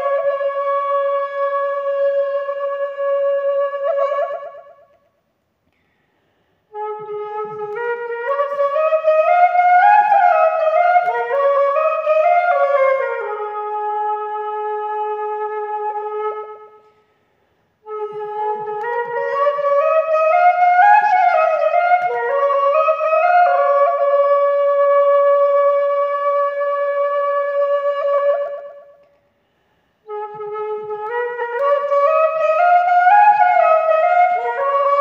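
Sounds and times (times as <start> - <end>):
flute solo melody: 0.0 - 5.0, 6.7 - 16.8, 17.8 - 29.1, 30.0 - 35.0.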